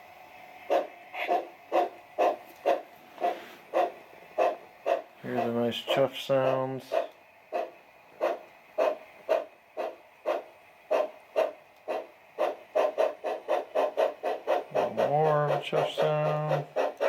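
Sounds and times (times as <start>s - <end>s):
steam locomotive chuffs from speaker: 0.7s - 17.0s.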